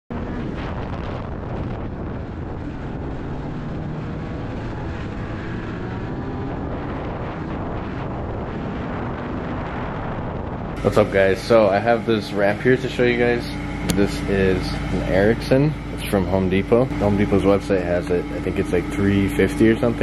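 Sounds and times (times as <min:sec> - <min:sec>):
snowmobile engine running: 0:00.1 - 0:20.0
wind noise on microphone: 0:00.1 - 0:20.0.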